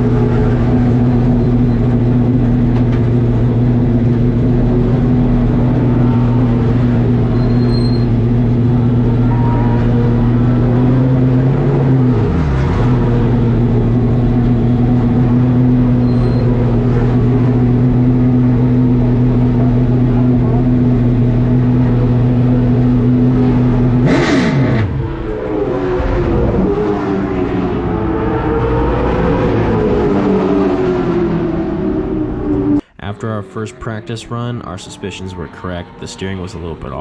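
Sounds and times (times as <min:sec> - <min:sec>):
race car engine running: 0:00.0 - 0:32.8.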